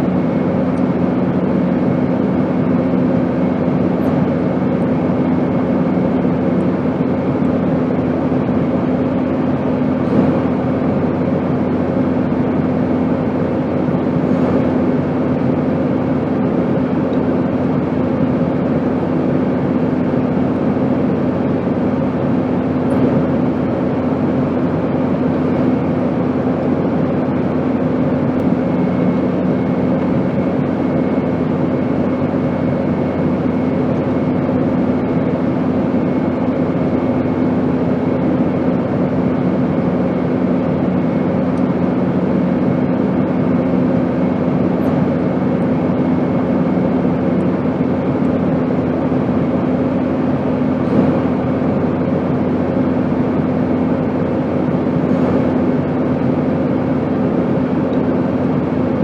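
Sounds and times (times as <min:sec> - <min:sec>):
airplane drone: 0:00.0 - 0:59.0.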